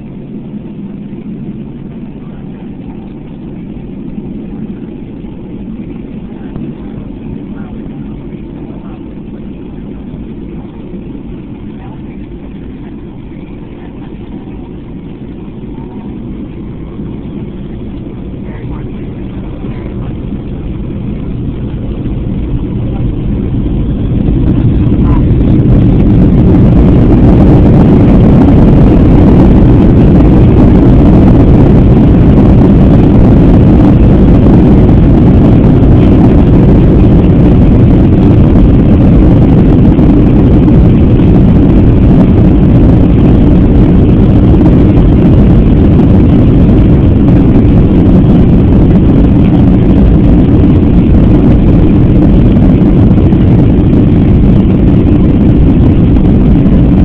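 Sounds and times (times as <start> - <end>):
jet engines at takeoff power: 0.0 - 57.0.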